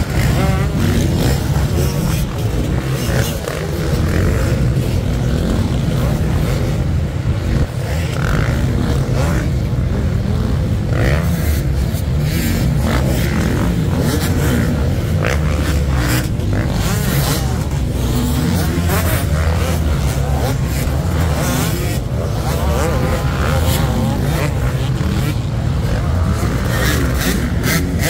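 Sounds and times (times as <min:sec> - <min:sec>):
motocross bikes revving: 0:00.0 - 0:28.0.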